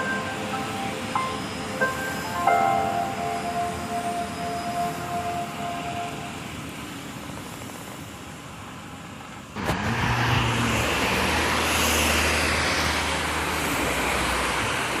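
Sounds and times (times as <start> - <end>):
quiet street ambience: 0.0 - 15.0
rushing road noise: 0.0 - 15.0
vehicle engine hum: 0.0 - 15.0.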